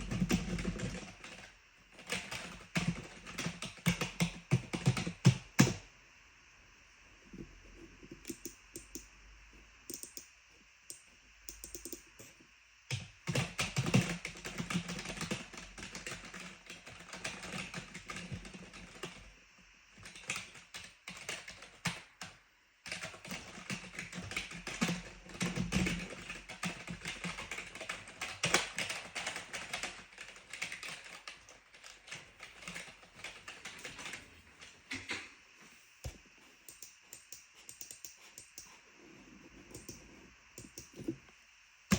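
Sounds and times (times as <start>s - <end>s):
clicky keyboard typing: 0.0s - 5.8s, 8.1s - 9.2s, 9.8s - 19.2s, 20.0s - 34.2s, 36.1s - 38.8s, 39.7s - 41.2s.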